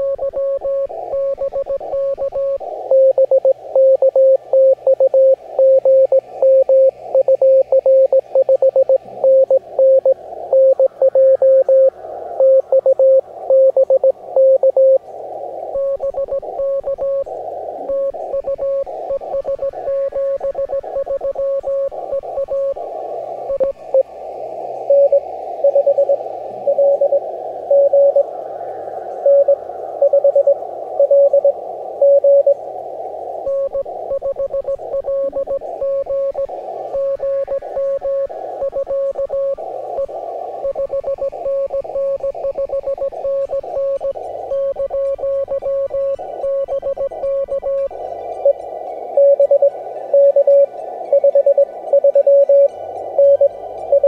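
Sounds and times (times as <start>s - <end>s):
faint higher-pitched morse signal: 0.0s - 15.0s, 15.6s - 32.7s, 33.3s - 54.0s
morse code beeps: 0.0s - 15.0s, 15.8s - 17.3s, 17.9s - 22.8s, 23.5s - 24.1s, 24.8s - 28.2s, 29.2s - 32.6s, 33.5s - 48.6s, 49.2s - 54.0s
radio band hiss: 0.0s - 54.0s.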